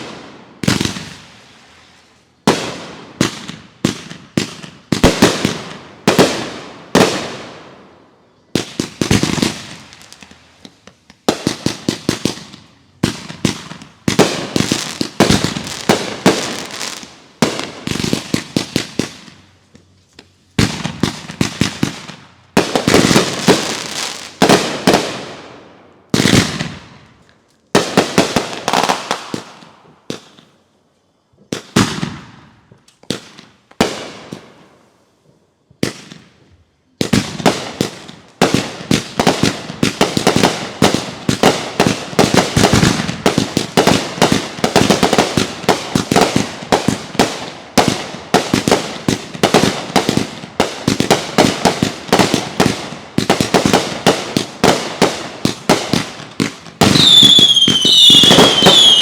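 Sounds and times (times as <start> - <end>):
fireworks bursting and crackling: 0.0 - 30.7, 31.4 - 35.2, 35.8 - 59.0.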